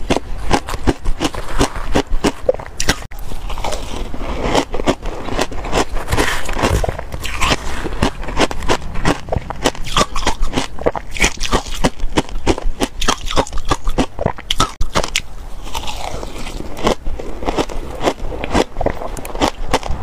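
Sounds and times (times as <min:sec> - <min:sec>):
chewing: 0:00.0 - 0:20.0
ice crunching between teeth: 0:00.0 - 0:20.0.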